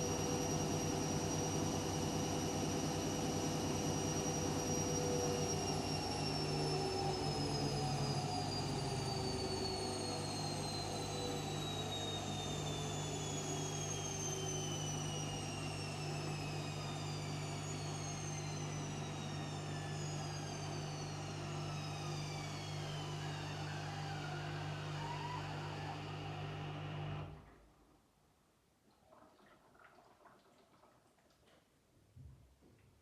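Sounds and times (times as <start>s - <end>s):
washing machine motor whine: 0.0s - 27.5s.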